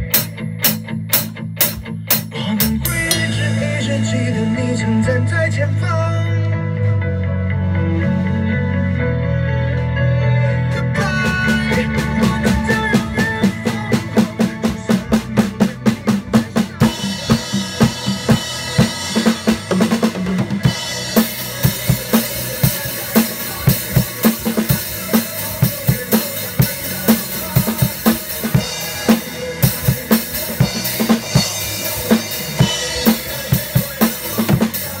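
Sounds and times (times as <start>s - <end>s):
drum kit rock beat: 0.0s - 9.1s, 10.6s - 35.0s
recorded song: 0.0s - 35.0s.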